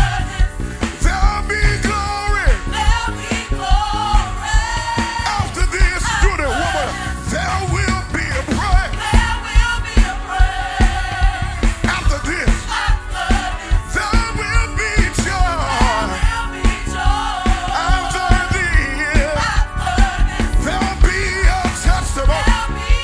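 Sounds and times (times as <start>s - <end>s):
fast steady drum beat: 0.0s - 23.0s
gospel singers with vibrato: 0.0s - 23.0s.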